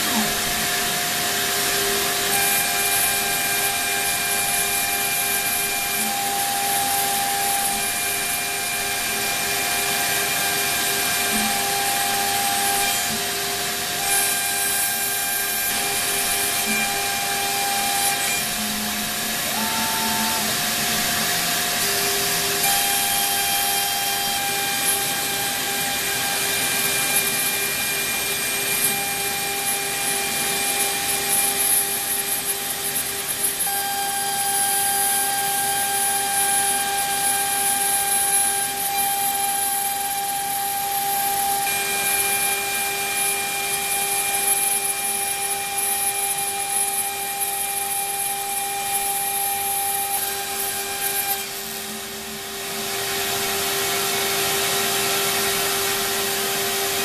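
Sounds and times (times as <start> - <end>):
high cutting hiss: 0.0 - 57.0
router spindle whine: 0.0 - 57.0
shop vacuum running: 0.0 - 57.0.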